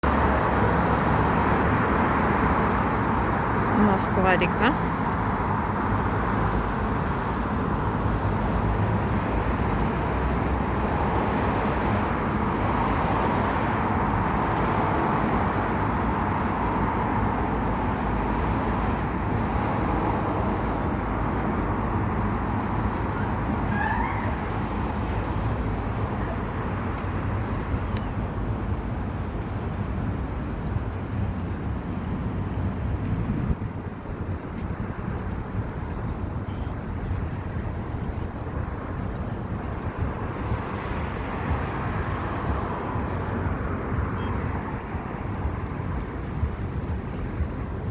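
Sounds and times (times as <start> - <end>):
outdoor noise: 0.0 - 47.9.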